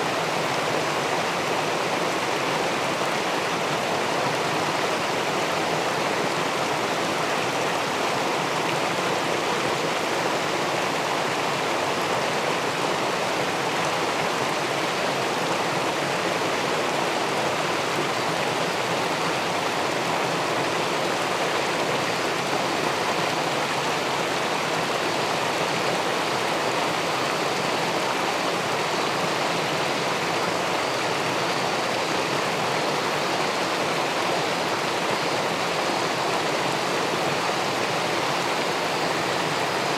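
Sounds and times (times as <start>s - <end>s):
water rushing over weir: 0.0s - 39.9s.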